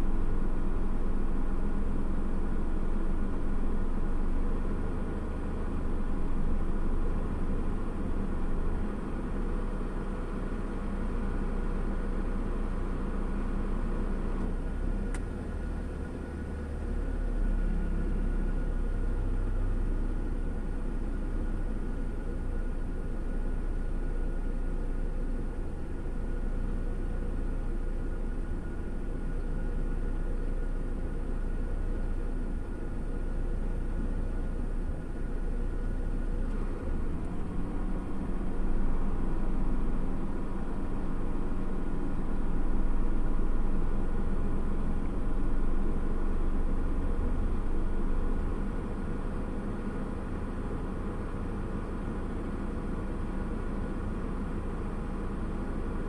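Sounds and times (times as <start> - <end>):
idling engine hum: 0.0 - 56.0.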